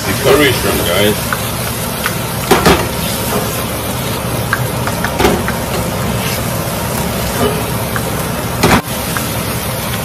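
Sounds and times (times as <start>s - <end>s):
spatula stirring food in pan: 0.0s - 10.0s.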